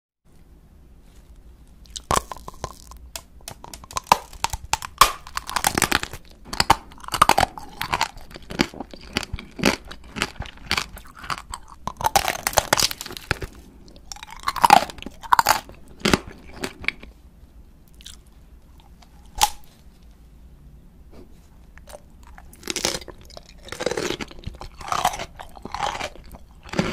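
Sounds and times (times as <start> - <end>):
crunching hard candy: 1.8 - 17.2, 17.9 - 19.7, 21.8 - 26.9.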